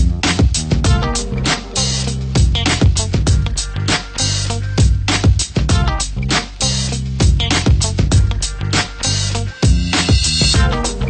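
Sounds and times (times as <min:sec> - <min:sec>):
bass line: 0:00.0 - 0:11.0
drum beat: 0:00.0 - 0:11.0.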